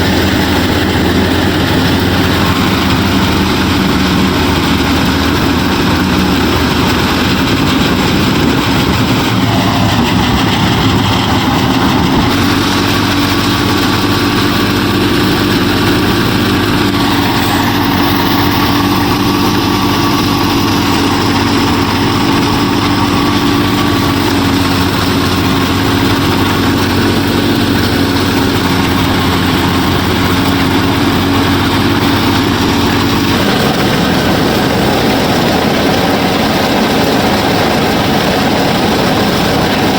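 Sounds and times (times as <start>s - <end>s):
miniature harvester motors humming: 0.0s - 39.9s.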